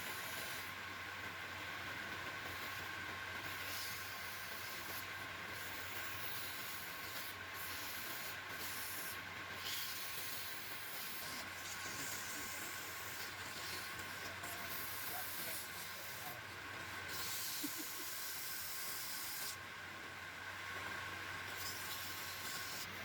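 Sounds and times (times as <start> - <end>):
machine running with hiss: 0.0 - 23.0.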